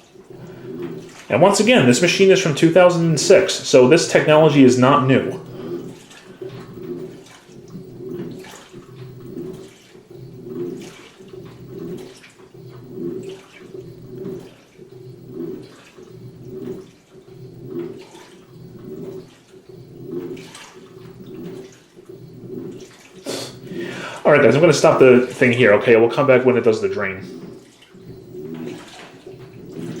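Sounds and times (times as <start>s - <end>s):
washing machine motor hum: 0.0s - 30.0s
water sloshing in washing machine: 0.0s - 30.0s.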